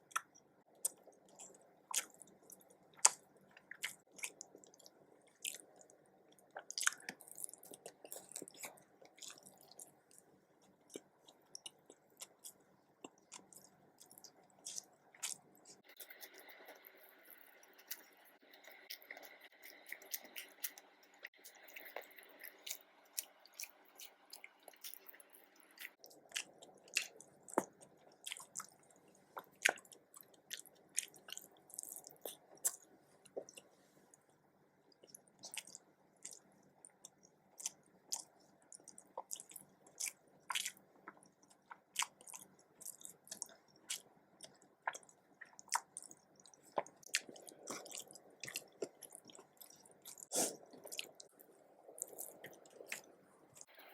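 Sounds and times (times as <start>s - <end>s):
wet chewing and mouth clicks: 0.0s - 34.3s, 34.9s - 53.9s.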